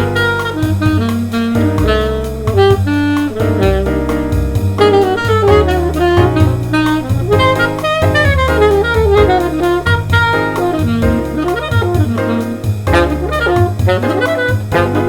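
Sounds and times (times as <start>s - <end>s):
drums: 0.0s - 15.0s
saxophone playing jazz: 0.0s - 15.0s
walking bass: 0.0s - 15.0s.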